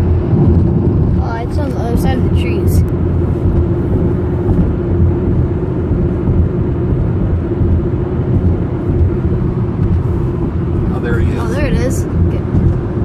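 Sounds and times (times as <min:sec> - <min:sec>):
airplane engine droning: 0:00.0 - 0:13.0.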